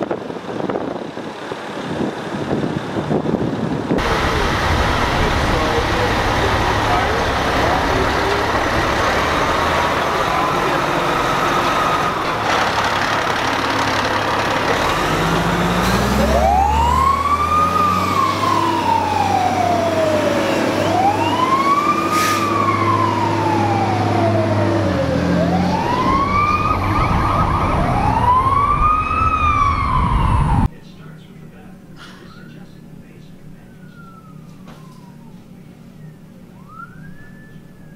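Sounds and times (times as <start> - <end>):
truck engine: 0.0 - 30.7
road noise: 0.0 - 37.9
fire truck siren wailing: 4.0 - 30.7, 33.6 - 37.9.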